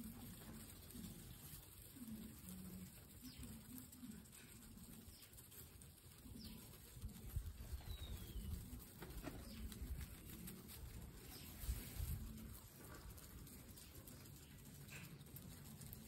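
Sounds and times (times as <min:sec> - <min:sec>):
grass stems rustling: 0:00.0 - 0:16.0
guinea pigs chewing grass: 0:00.0 - 0:16.0.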